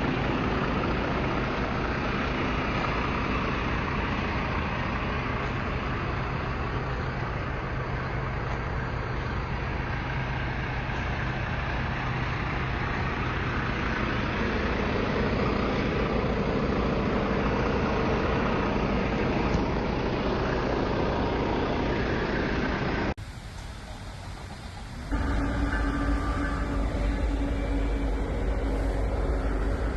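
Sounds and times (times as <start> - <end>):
road noise: 0.0 - 29.9
truck engine drone: 0.0 - 29.9.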